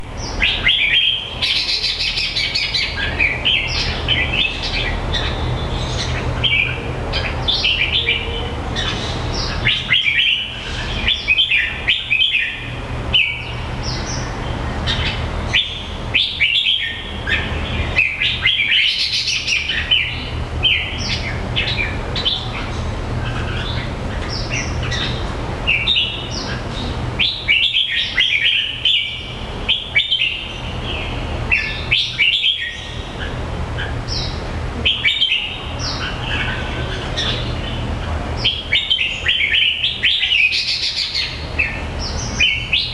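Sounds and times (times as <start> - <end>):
bird chirping: 0.0 - 42.9
steady low hum: 0.0 - 42.9.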